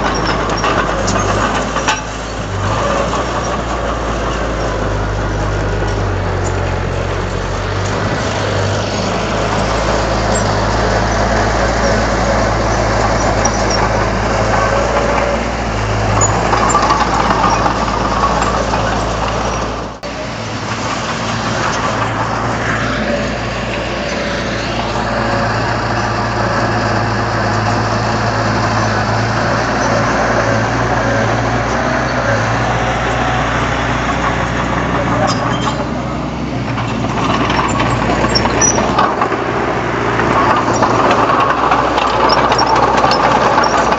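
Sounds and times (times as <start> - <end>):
diesel machinery running: 0.0 - 43.9.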